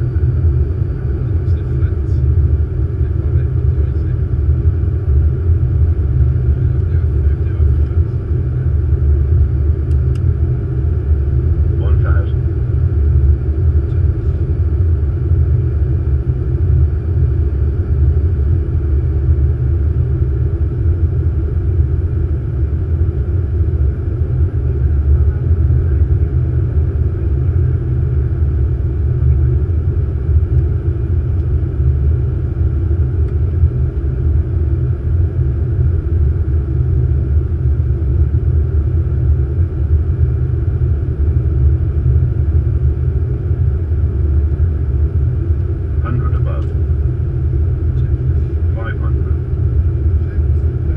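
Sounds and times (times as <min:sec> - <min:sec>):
cockpit airflow and engine rumble: 0:00.0 - 0:50.9.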